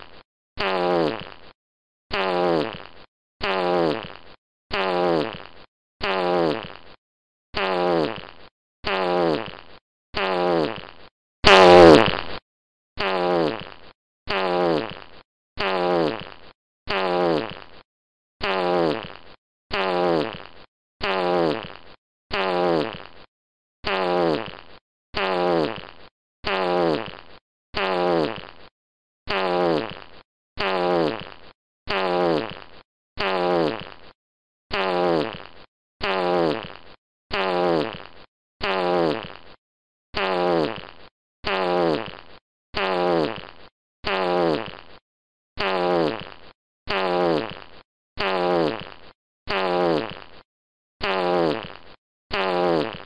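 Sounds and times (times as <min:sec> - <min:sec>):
fart sound effect: 0:00.6 - 0:12.4, 0:13.0 - 0:17.8, 0:18.4 - 0:28.7, 0:29.3 - 0:39.6, 0:40.2 - 0:45.0, 0:45.6 - 0:53.0.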